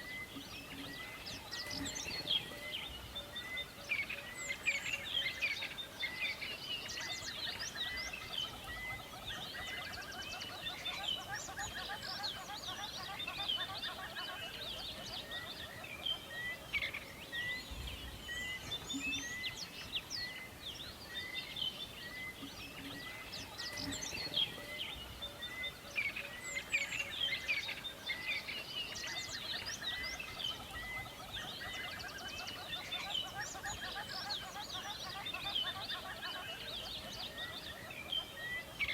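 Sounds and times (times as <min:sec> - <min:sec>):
many birds chirping and singing: 0:00.0 - 0:38.9.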